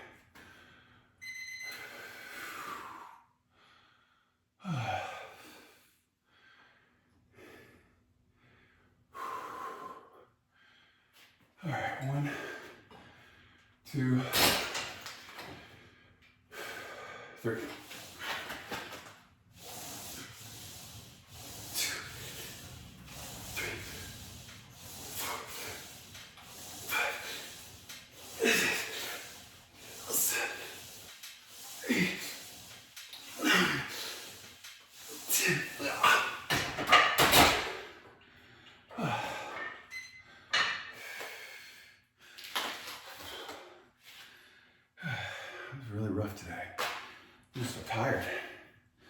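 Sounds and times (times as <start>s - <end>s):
man breathing hard: 1.8s - 13.8s, 15.4s - 36.6s, 37.5s - 45.9s.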